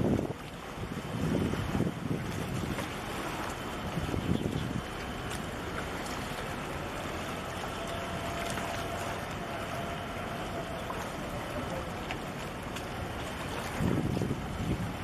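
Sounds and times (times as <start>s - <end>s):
rushing wind and water: 0.0s - 15.0s.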